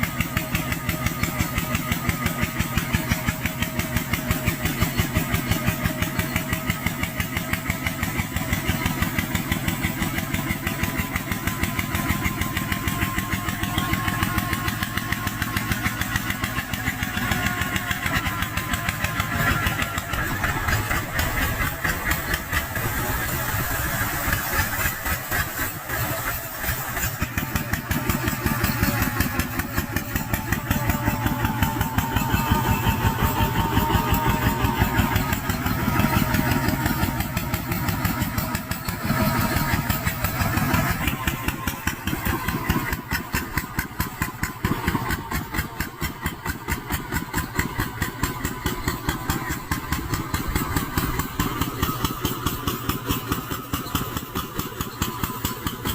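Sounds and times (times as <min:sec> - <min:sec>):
tractor diesel engine chugging: 0:00.0 - 0:55.9.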